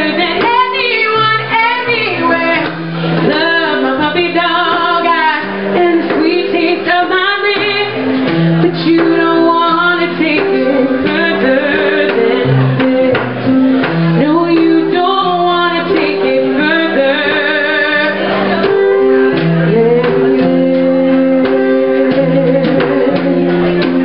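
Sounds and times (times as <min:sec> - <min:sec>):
woman singing: 0:00.0 - 0:24.0.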